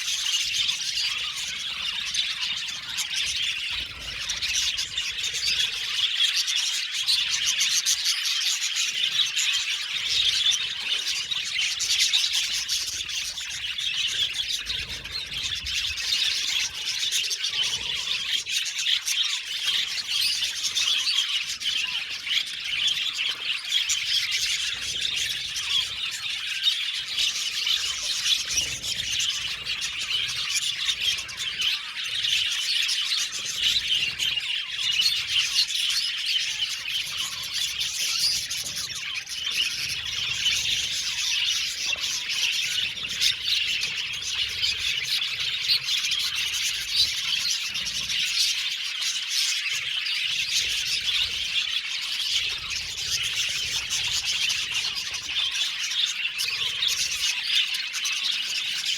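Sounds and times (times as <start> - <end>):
bird squawks: 0.0 - 58.9
budgerigars chirping: 0.0 - 58.9.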